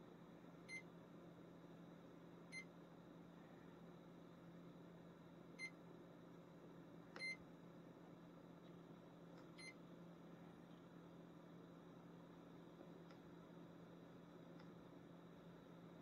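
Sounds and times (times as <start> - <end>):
faint steady low hum: 0.0 - 16.0.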